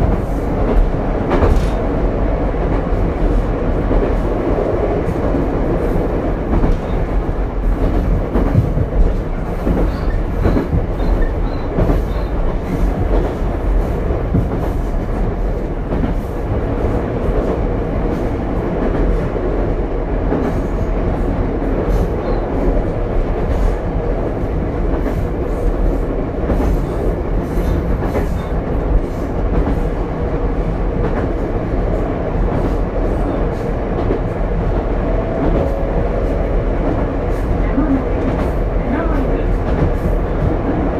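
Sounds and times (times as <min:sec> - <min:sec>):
train running rumble: 0:00.0 - 0:40.9.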